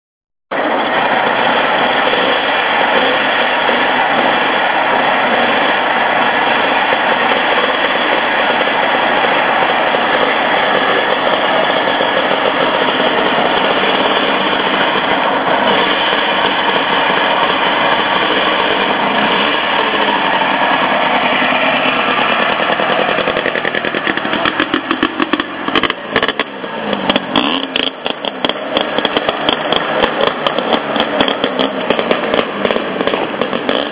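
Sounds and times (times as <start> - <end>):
two-stroke engine buzzing idle: 0.6 - 33.9.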